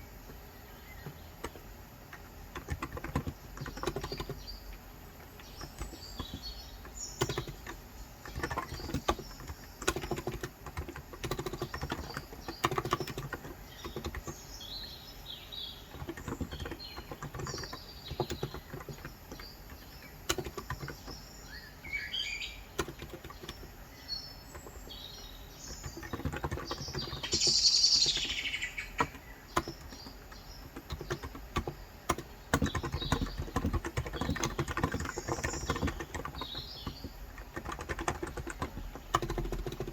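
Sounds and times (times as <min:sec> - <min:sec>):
birds chirping: 0:00.0 - 0:39.9
typing on keyboard: 0:00.3 - 0:39.9.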